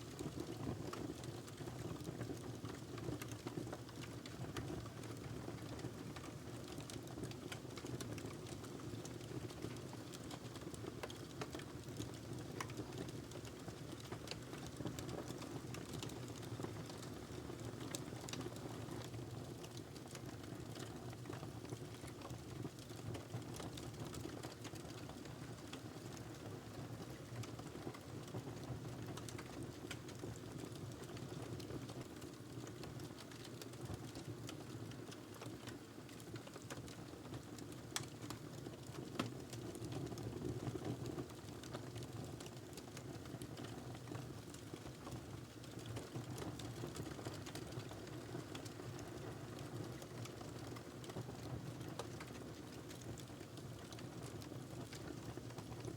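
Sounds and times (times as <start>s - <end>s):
fire crackling and popping: 0.1s - 26.3s, 27.1s - 55.9s.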